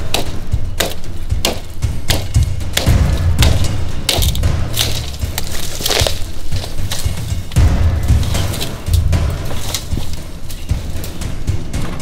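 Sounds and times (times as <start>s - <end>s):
knife chopping bamboo: 0.0s - 11.2s.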